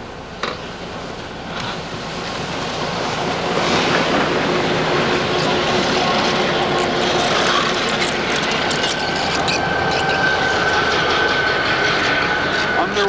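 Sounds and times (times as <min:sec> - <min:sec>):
diesel locomotives rumbling past: 0:00.0 - 0:13.0
high steady squeal: 0:01.3 - 0:13.0.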